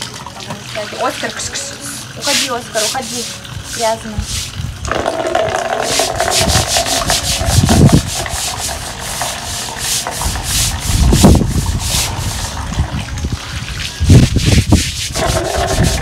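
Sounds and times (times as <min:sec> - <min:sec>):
scrubber rubbing wet concrete: 0:00.8 - 0:16.0.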